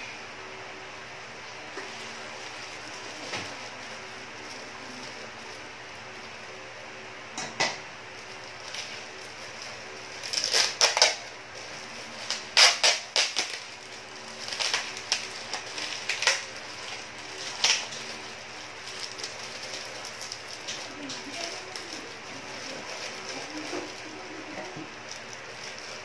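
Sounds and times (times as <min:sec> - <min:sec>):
plastic bag crinkling: 0:01.4 - 0:06.9, 0:08.0 - 0:26.0.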